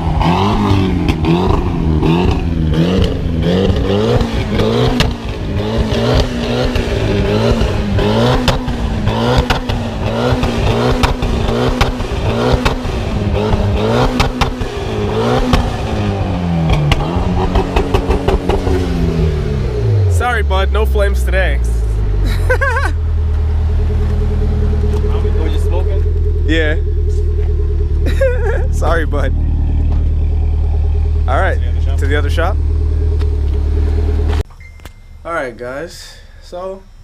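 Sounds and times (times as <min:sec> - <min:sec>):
car engine revving: 0:00.0 - 0:34.5
exhaust cracks: 0:00.0 - 0:34.5.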